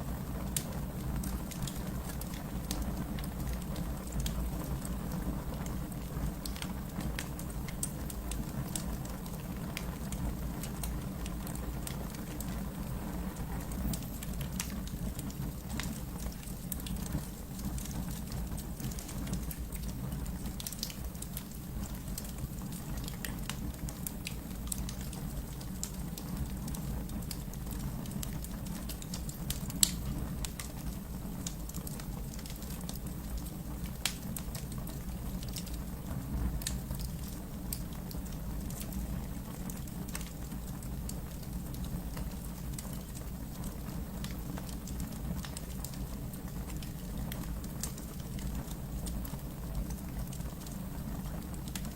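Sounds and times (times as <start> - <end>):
fire crackling and popping: 0.0 - 51.9
fire flames rumbling: 0.0 - 51.9.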